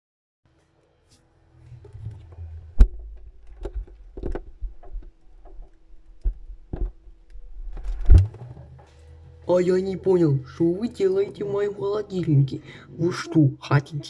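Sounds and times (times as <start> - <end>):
steady low hum: 1.4 - 13.6.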